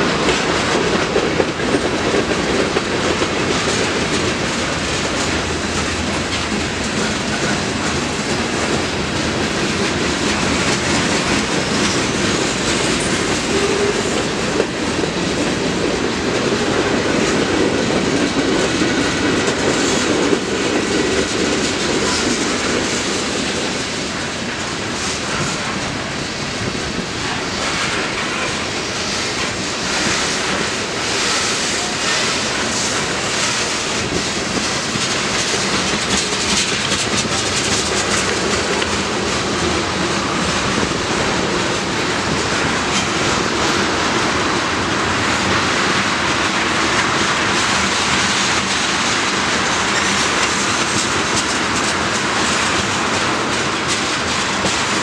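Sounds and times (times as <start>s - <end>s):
train wheels rushing on rails: 0.0s - 55.0s
wheels clicking over rail joints: 0.0s - 55.0s.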